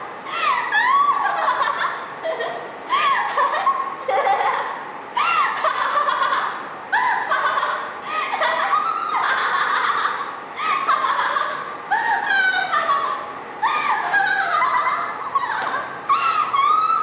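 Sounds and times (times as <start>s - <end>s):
woman laughing: 0.3s - 17.0s.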